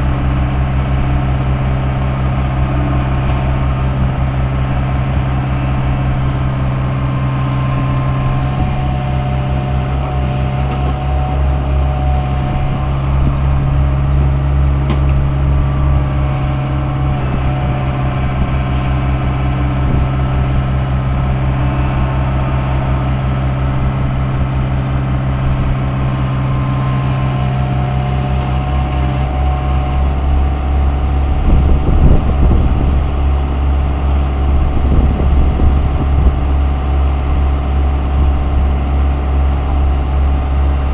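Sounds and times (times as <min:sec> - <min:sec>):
excavator diesel engine running: 0:00.0 - 0:40.9
steady higher tone: 0:00.0 - 0:40.9.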